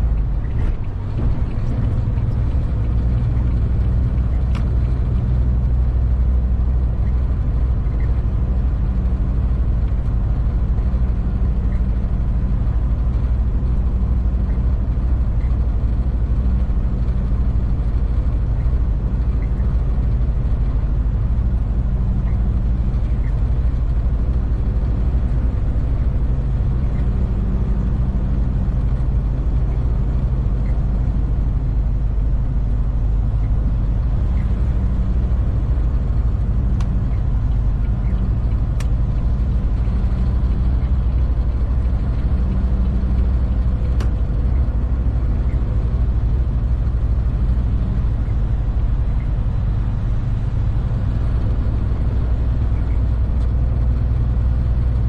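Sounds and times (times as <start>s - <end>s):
road noise inside cab: 0.0s - 55.0s
truck diesel engine drone: 0.0s - 55.0s.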